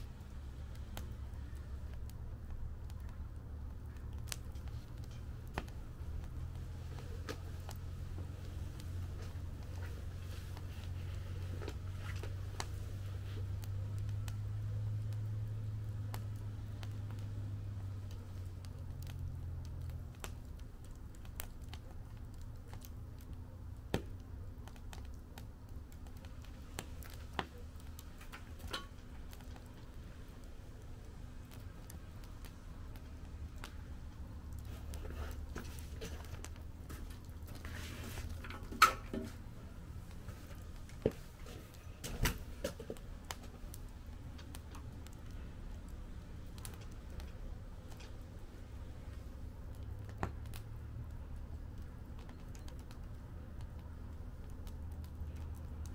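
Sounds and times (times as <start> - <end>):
low steady rumble: 0.0 - 55.9
wood fire crackling and popping: 0.0 - 55.9.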